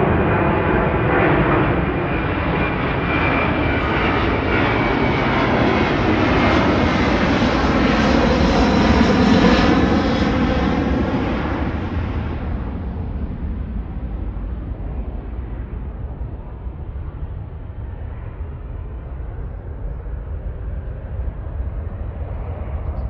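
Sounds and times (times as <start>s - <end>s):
airliner taking off: 0.0s - 23.0s.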